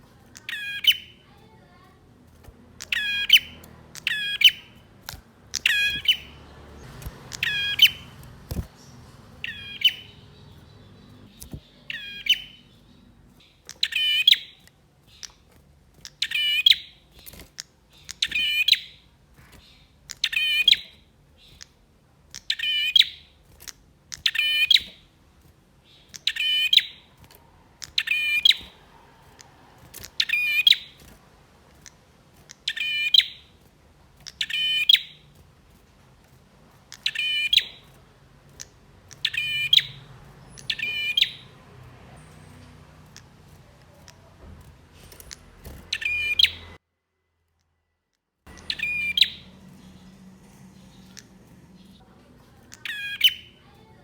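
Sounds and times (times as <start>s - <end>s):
bird chirping calls: 0.0s - 46.8s, 48.5s - 54.0s.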